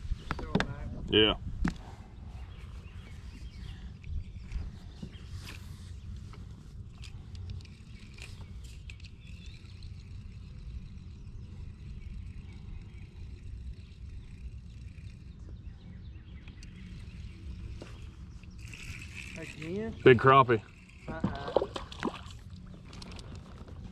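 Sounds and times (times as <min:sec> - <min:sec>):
faint birds chirping: 0:00.0 - 0:23.9
wind rumble on microphone: 0:00.0 - 0:23.9.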